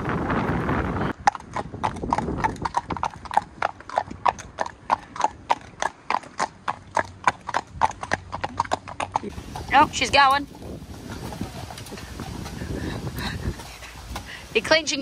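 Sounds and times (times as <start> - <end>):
horse hooves clip-clopping on tarmac: 1.1 - 15.0.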